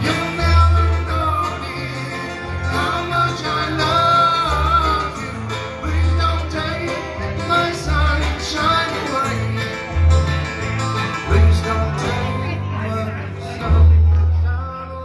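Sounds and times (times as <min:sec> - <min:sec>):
cello bass notes: 0:00.0 - 0:15.0
rolling banjo: 0:00.0 - 0:15.0
strummed acoustic guitar: 0:00.0 - 0:15.0.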